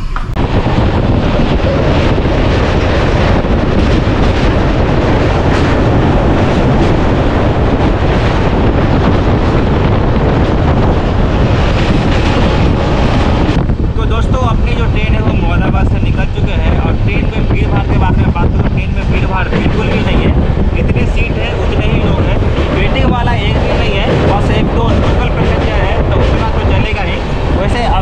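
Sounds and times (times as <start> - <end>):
train running over bridge: 0.0 - 28.0
wind rushing over microphone: 0.0 - 28.0.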